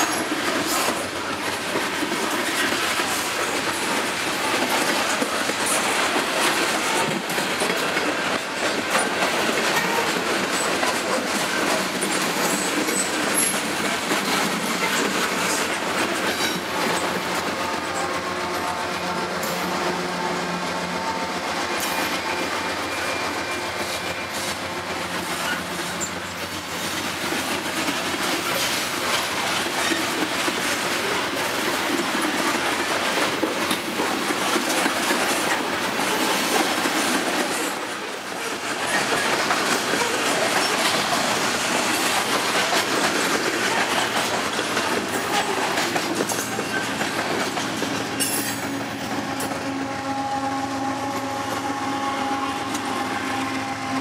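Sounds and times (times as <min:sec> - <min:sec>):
diesel locomotive passing: 0:00.0 - 0:54.0
train wheels clattering on rails: 0:00.0 - 0:54.0.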